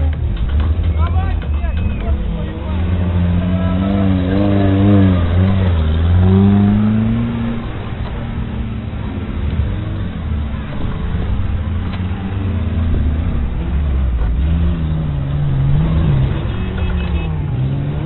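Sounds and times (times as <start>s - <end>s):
off-road car engines revving: 0.0s - 18.0s.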